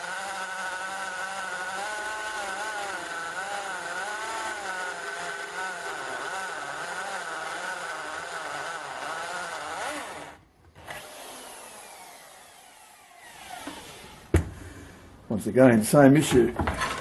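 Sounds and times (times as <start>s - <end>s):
electric drill whining: 0.0s - 14.9s.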